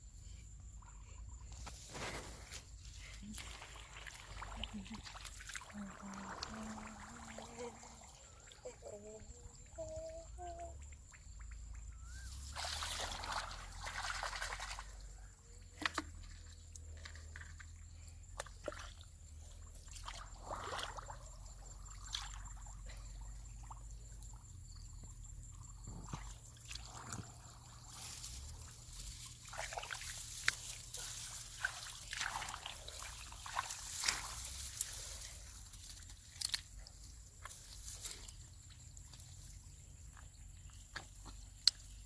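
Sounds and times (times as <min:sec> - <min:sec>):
water sloshing and splashing: 0:01.7 - 0:24.5, 0:25.6 - 0:42.0.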